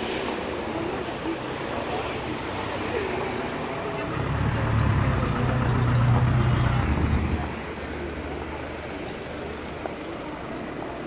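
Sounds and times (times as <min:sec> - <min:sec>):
city street traffic: 0:00.0 - 0:11.0
vehicle engine rumbling: 0:00.0 - 0:11.0.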